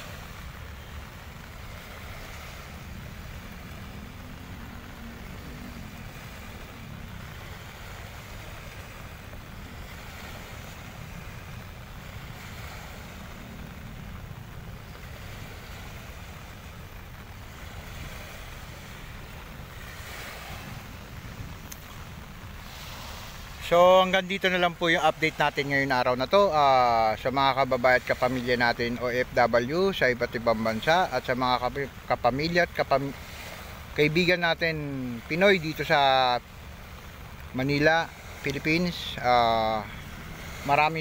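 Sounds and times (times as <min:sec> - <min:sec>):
wind rumble on microphone: 0:00.0 - 0:35.8
small waves washing onto sand: 0:00.0 - 0:41.0.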